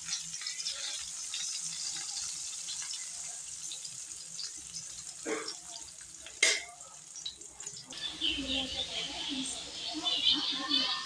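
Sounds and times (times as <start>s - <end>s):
fish frying in oil: 0.0s - 10.8s.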